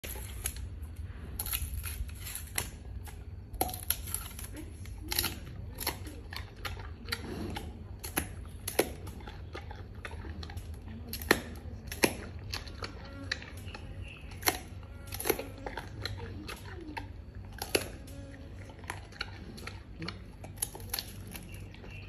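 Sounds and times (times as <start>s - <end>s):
panda chewing bamboo: 0.0s - 22.0s
steady low hum: 0.0s - 22.0s.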